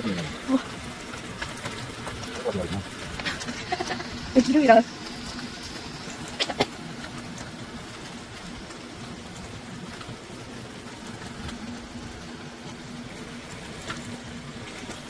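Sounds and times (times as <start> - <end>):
fat sizzling in waffle press: 0.0 - 15.0.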